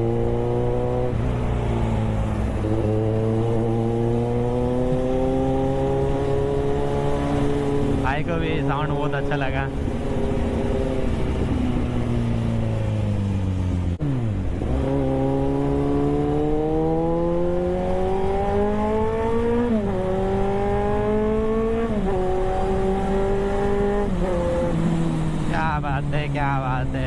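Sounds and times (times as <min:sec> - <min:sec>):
motorcycle accelerating through gears: 0:00.0 - 0:27.0.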